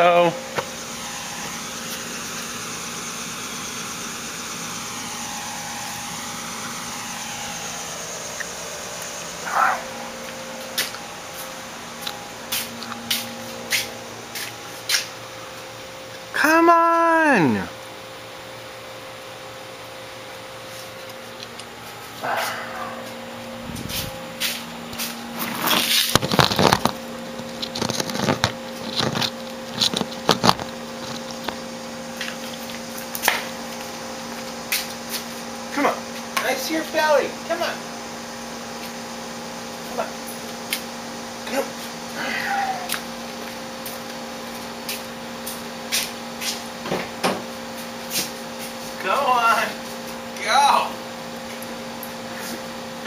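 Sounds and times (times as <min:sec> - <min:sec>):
steady mechanical hum: 0:00.0 - 0:53.0
wavering high whine: 0:00.0 - 0:53.0.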